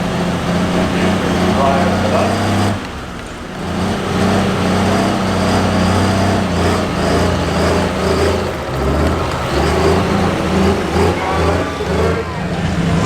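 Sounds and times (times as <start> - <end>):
loud diesel tractor engine: 0.0 - 13.0.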